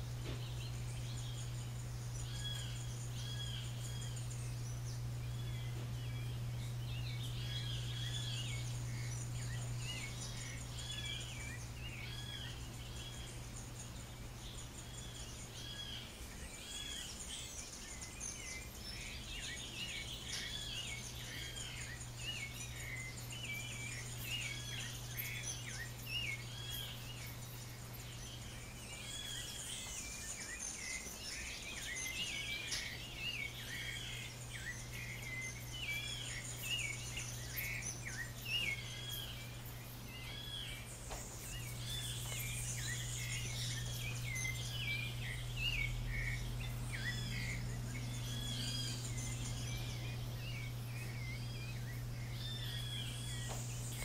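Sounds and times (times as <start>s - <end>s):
insects buzzing: 0.0s - 54.0s
songbirds chirping: 0.0s - 54.0s
steady low hum: 0.0s - 54.0s.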